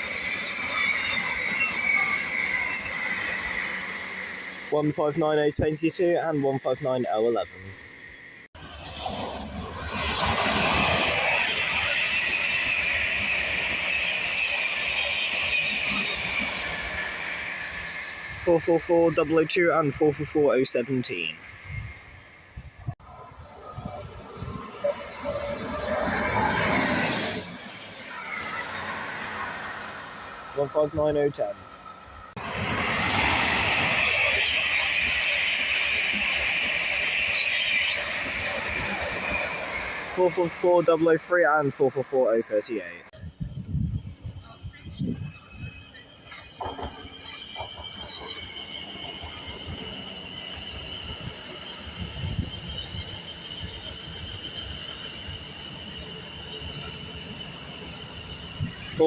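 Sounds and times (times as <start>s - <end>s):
train wheels rushing on rails: 0.0s - 59.0s.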